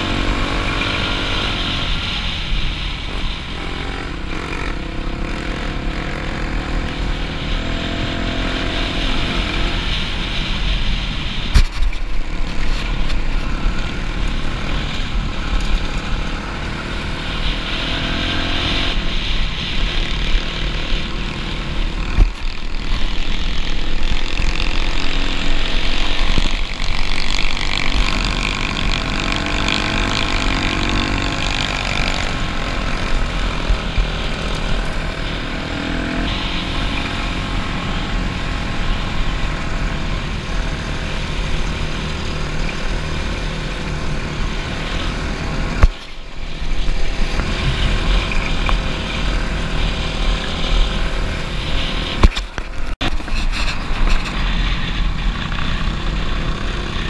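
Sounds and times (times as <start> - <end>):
dirt bike engine revving: 0.0 - 11.0, 11.6 - 57.0
wind rushing over microphone: 0.0 - 57.0.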